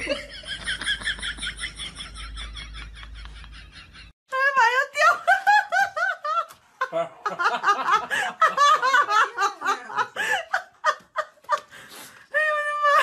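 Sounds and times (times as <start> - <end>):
people giggling: 0.0 - 4.1, 5.1 - 11.7.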